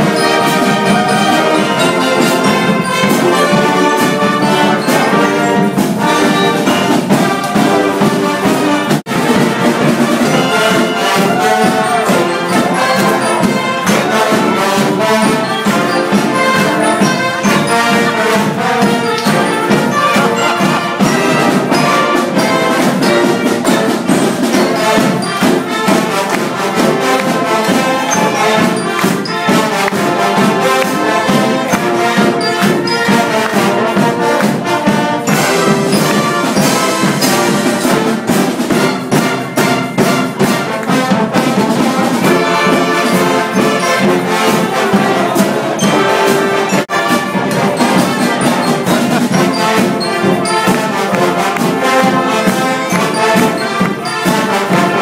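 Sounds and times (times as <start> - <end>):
brass band playing live: 0.0 - 55.0
drum strikes: 0.0 - 55.0.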